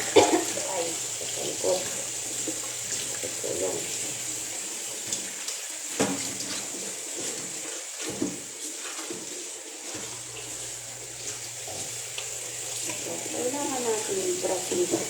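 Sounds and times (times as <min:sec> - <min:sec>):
tap water running and splashing: 0:00.0 - 0:15.0.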